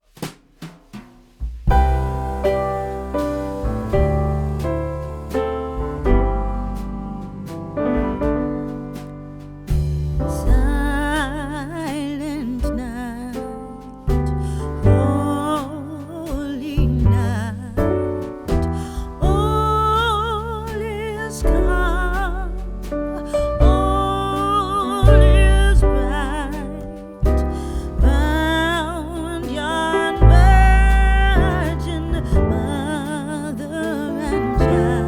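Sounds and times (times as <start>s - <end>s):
deep bass: 1.3s - 35.0s
piano or keyboard: 1.7s - 35.0s.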